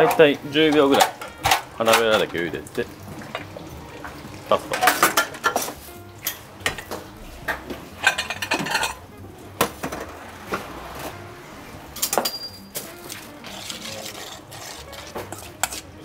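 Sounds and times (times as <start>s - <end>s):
metal bowl and utensils clinking: 0.0s - 11.2s, 12.0s - 16.0s.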